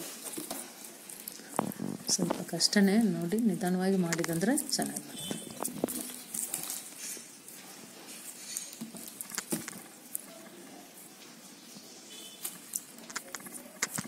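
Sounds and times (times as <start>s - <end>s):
plastic wire rustling: 0.0s - 14.0s.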